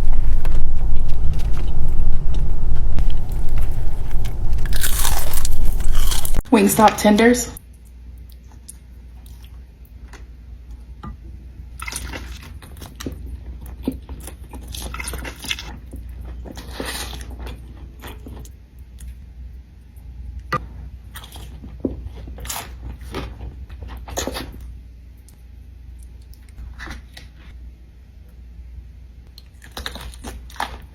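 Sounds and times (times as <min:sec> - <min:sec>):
crunching and chewing food: 0:00.0 - 0:06.5, 0:07.7 - 0:11.0, 0:11.6 - 0:27.6, 0:29.3 - 0:30.9.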